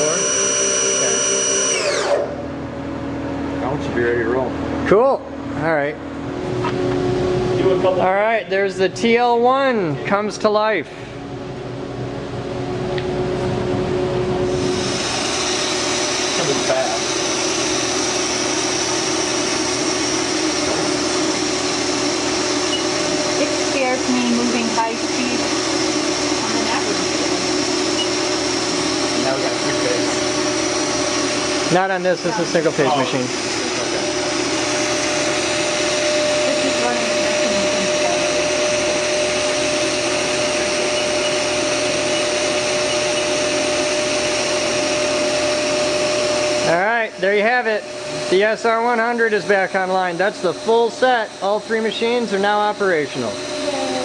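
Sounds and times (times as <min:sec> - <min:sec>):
cnc router whirring: 0:00.0 - 0:10.0, 0:12.8 - 0:54.0.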